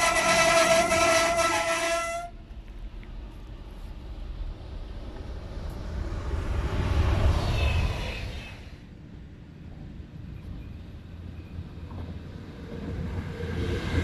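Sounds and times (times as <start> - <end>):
electric train passing at speed: 0.0 - 14.0
high whine of passing train: 0.0 - 14.0.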